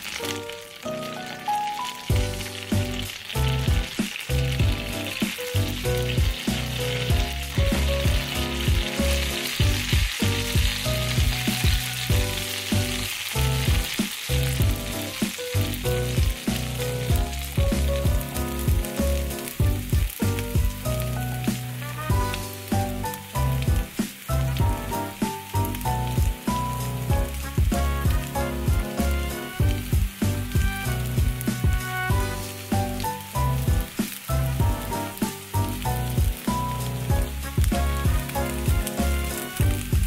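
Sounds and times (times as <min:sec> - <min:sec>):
patties sizzling in a pan: 0:00.0 - 0:40.0
background music with steady beat: 0:02.1 - 0:40.0.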